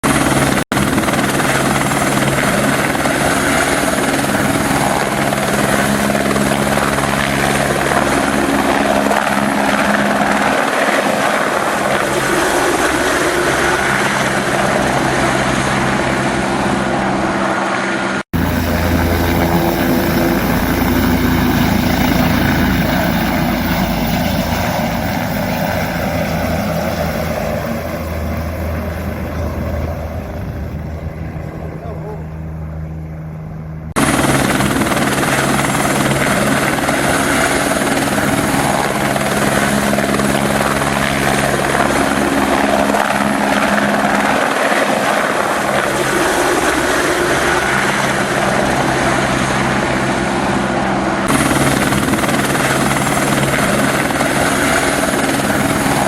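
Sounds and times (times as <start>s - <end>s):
deep helicopter rotor hum: 0.0s - 56.0s
helicopter rotor and turbine: 0.0s - 56.0s.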